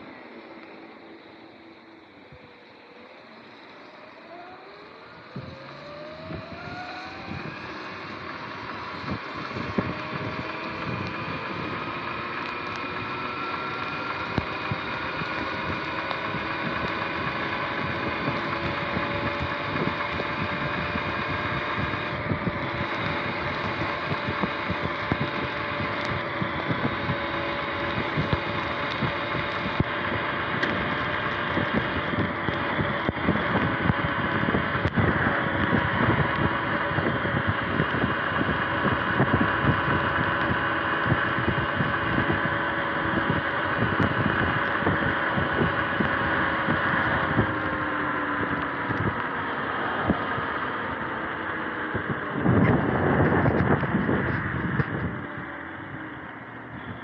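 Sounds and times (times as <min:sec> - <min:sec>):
electric motor whine: 0:00.0 - 0:57.0
wind rush: 0:05.0 - 0:57.0.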